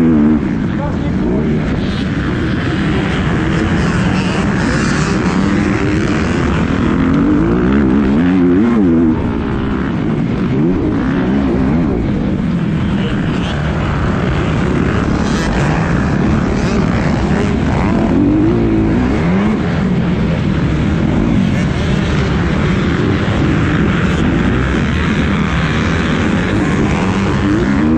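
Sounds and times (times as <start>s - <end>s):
motocross bike engine revving: 0.0s - 27.9s
steady noisy rush: 0.0s - 27.9s.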